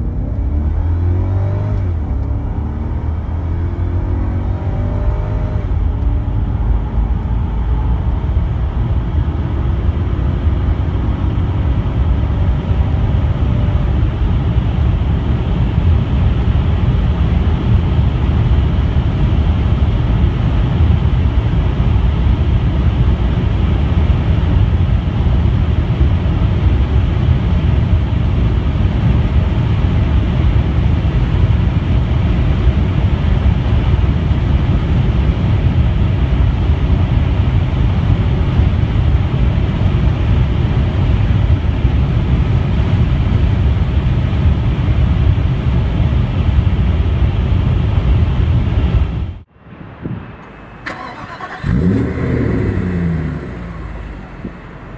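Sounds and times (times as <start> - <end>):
car engine accelerating: 0.0 - 54.9
wind and road noise: 0.0 - 54.9.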